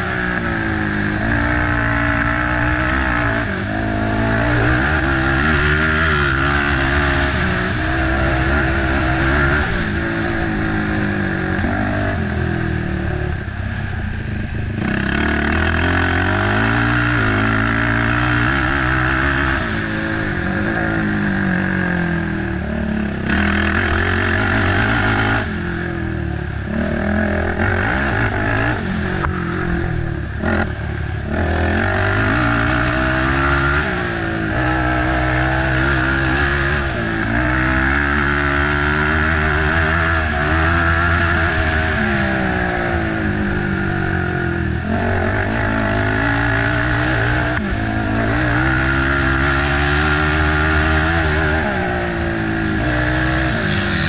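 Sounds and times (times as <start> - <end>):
quad engine revving hard: 0.0 - 13.4, 14.8 - 54.0.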